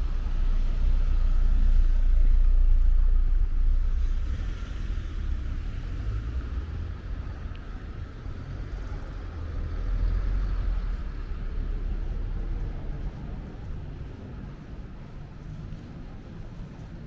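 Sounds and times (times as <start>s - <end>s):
car passing: 0.0s - 16.3s
traffic rumble: 0.0s - 17.0s.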